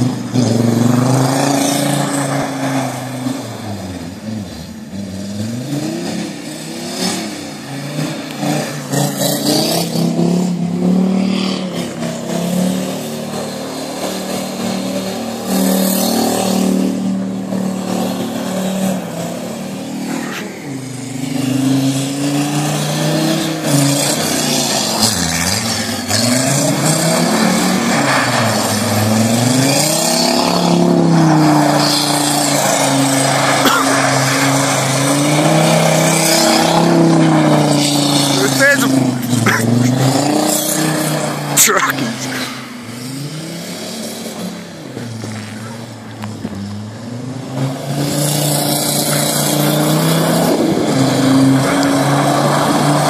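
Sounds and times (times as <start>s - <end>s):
diesel engine revving hard: 0.0s - 53.0s
tyres churning snow: 0.0s - 53.0s.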